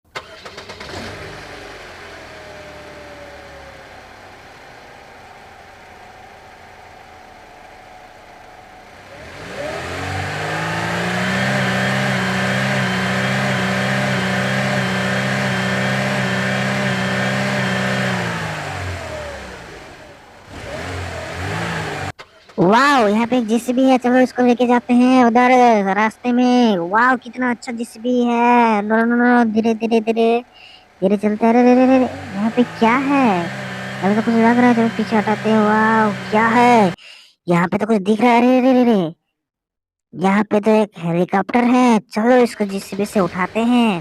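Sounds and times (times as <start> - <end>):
engine revving: 0.0 - 37.0, 42.6 - 44.0.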